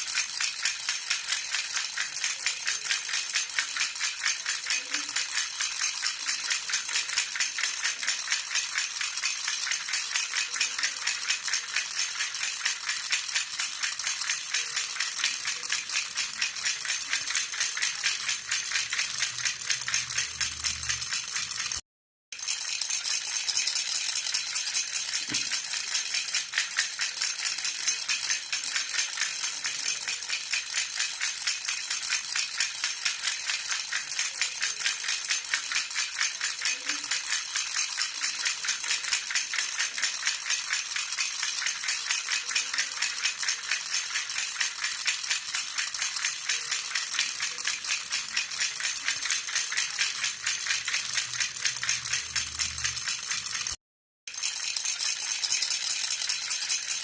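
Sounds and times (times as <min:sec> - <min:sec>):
baby rattle jingling: 0:00.0 - 0:21.8, 0:22.4 - 0:57.0.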